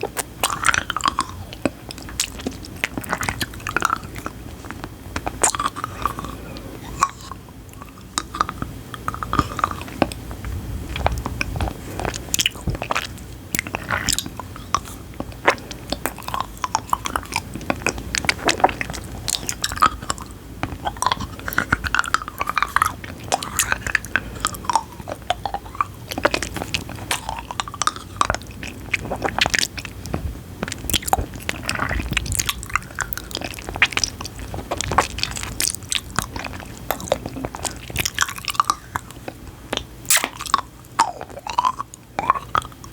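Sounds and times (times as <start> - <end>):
chewing crisp food: 0.0 - 42.9.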